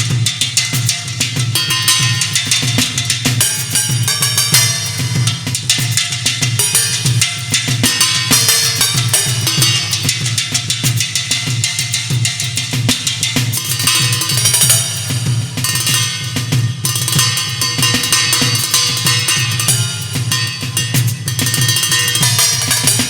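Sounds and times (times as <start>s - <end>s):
fast drum kit playing: 0.0s - 23.0s.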